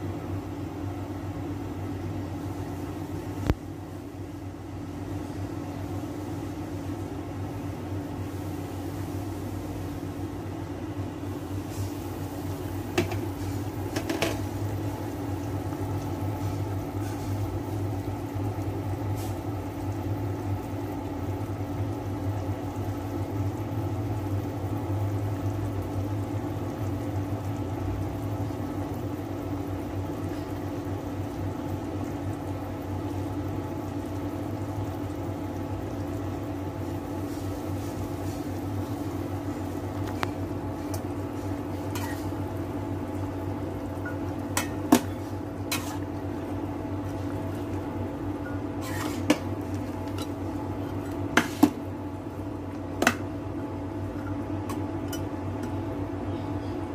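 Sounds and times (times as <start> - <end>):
cooktop hum: 0.0 - 56.9
pot simmering: 0.0 - 56.9.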